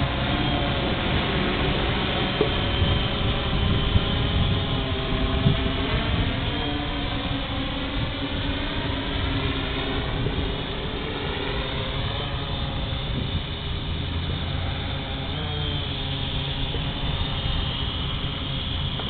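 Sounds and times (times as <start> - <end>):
drone motors buzzing: 0.0 - 19.0.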